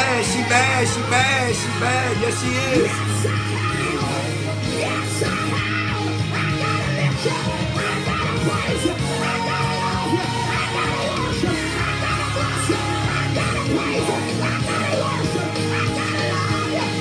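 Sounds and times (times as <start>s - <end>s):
woman singing gospel song: 0.0s - 16.0s.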